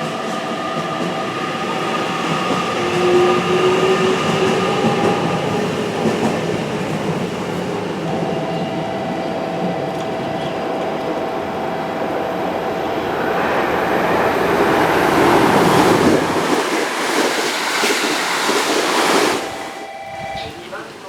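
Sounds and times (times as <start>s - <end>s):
electric train steady tone: 0.0s - 21.0s
wheel and rail rush: 0.0s - 21.0s.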